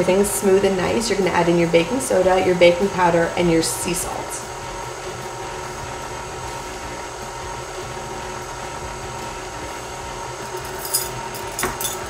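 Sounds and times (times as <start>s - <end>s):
stand mixer running: 0.0s - 12.0s.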